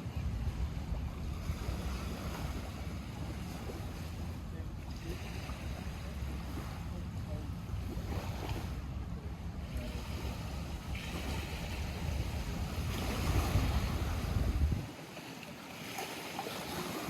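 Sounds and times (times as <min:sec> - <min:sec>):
wind rumble on microphone: 0:00.0 - 0:15.1
lake waves washing against shore: 0:00.0 - 0:17.0.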